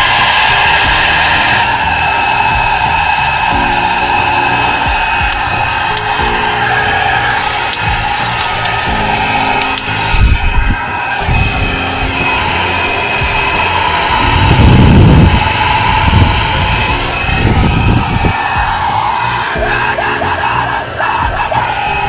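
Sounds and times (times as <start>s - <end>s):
airflow rumble on microphone: 0.0s - 22.0s
hair dryer blowing: 0.0s - 22.0s.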